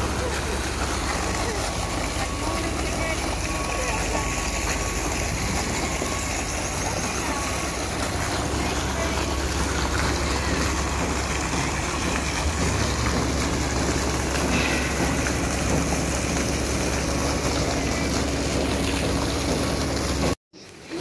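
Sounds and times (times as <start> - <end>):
fountain jet splashing into basin: 0.0 - 21.0.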